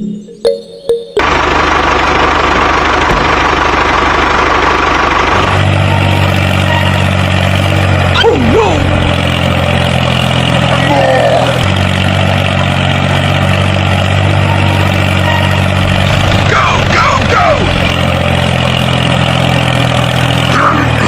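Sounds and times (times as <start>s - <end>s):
tractor engine idling: 1.2s - 21.0s.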